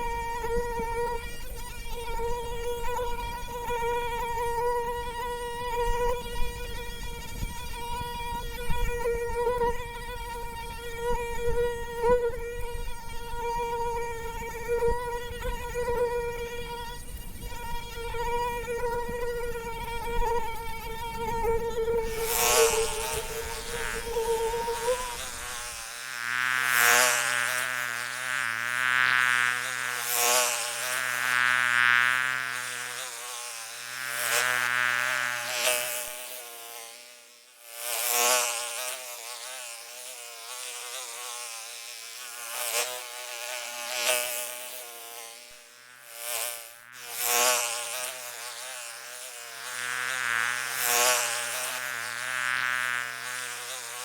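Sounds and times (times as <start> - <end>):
mosquito whining in flight: 0.0 - 54.0.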